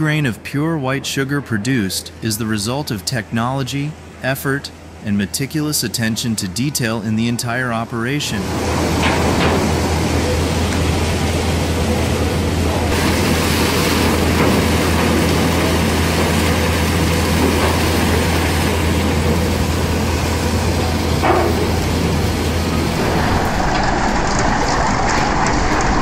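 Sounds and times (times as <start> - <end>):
conveyor machinery din: 0.0 - 26.0
low machine hum: 0.0 - 26.0.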